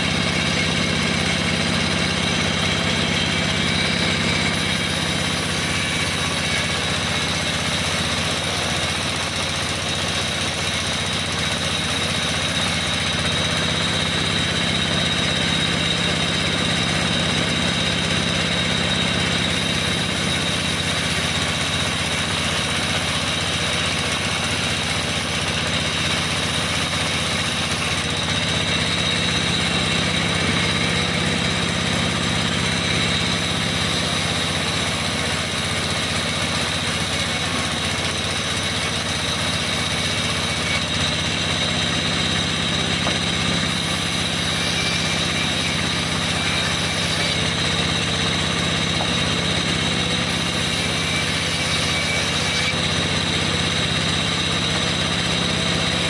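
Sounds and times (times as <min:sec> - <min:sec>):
band sawmill sawing log: 0:00.0 - 0:56.0.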